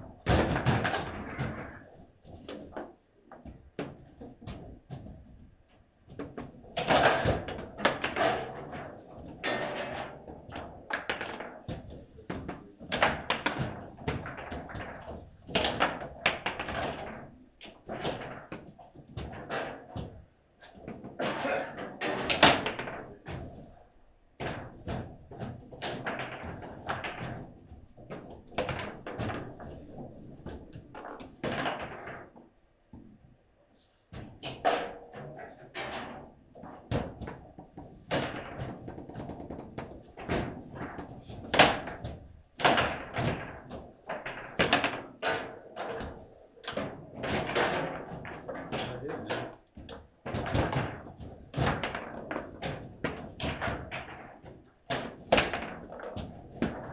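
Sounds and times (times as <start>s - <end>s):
table football knocks and clacks: 0.0s - 33.4s, 34.1s - 56.9s.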